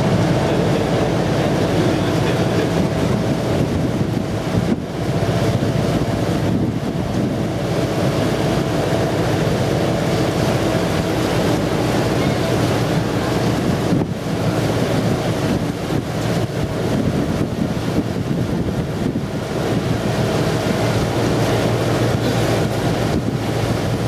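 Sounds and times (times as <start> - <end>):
boat engine hum: 0.0 - 24.0
water washing past hull: 0.0 - 24.0
wind buffeting microphone: 0.0 - 24.0.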